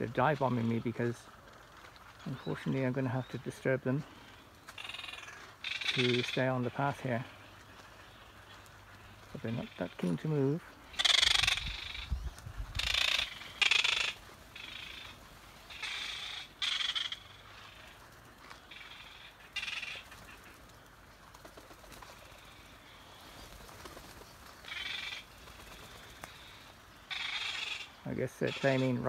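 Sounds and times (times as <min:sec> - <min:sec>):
seabirds calling: 0:00.0 - 0:29.0.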